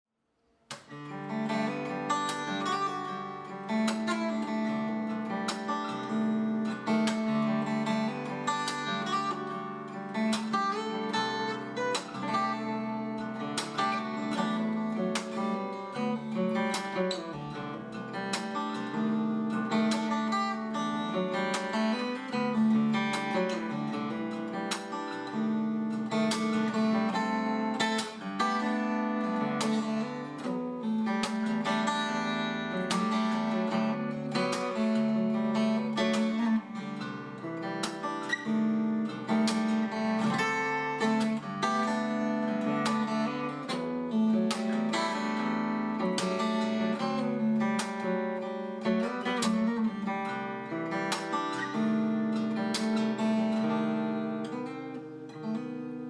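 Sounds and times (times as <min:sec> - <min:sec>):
acoustic guitar fingerpicking: 0:00.7 - 0:56.0.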